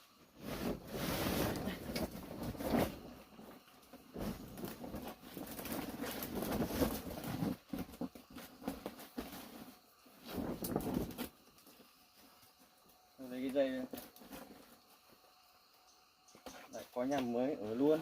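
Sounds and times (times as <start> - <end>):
building materials rustling and scraping: 0.1 - 15.1.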